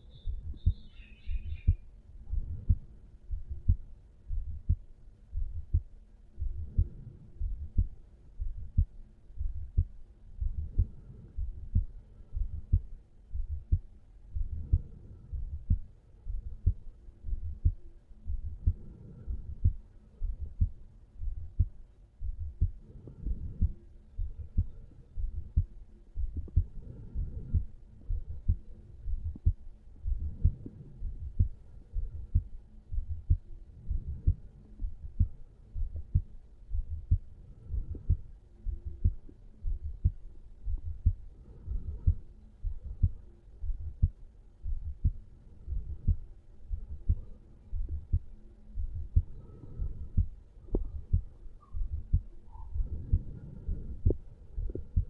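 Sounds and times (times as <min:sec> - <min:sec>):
heartbeat thumps: 0:00.3 - 0:55.0.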